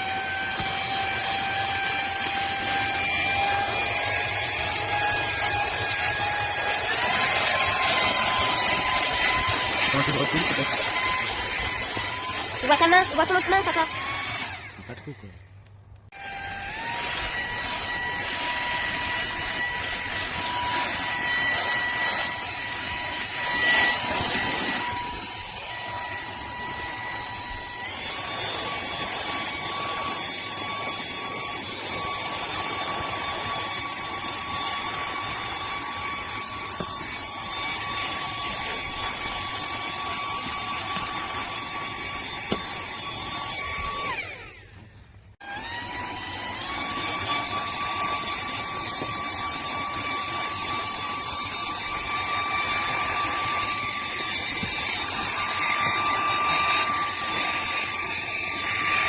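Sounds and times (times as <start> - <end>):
handheld vacuum motor whining: 0.0 - 59.0.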